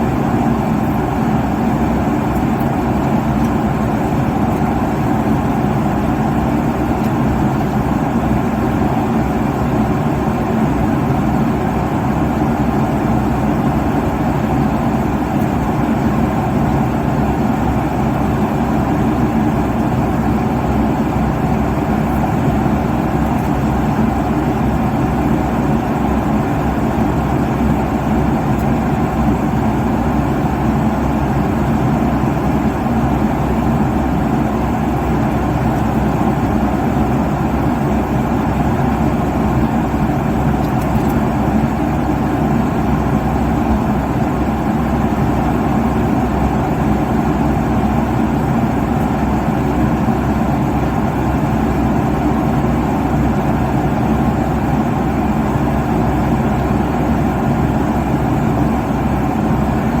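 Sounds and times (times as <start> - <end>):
airliner cabin noise: 0.0 - 60.0.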